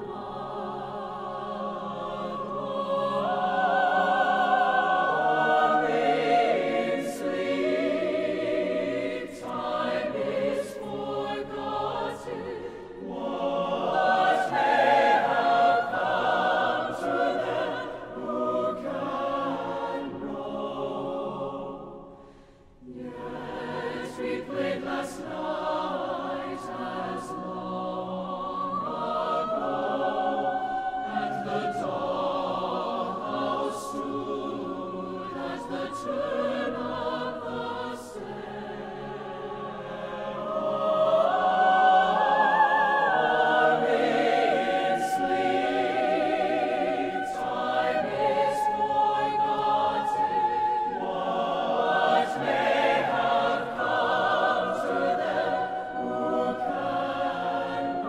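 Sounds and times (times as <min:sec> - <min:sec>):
a cappella choir singing: 0:00.0 - 0:58.0.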